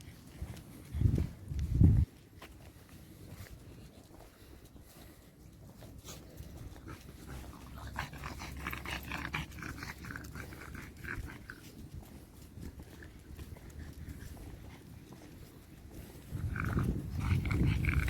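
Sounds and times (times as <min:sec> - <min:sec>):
dog panting: 0:02.7 - 0:18.0.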